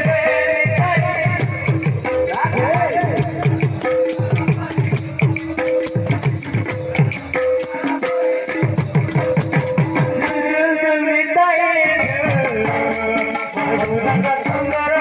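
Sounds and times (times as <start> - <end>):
hand cymbals jingling: 0.0 - 10.3, 12.2 - 15.0
barrel drums played fast: 0.0 - 10.6, 12.0 - 15.0.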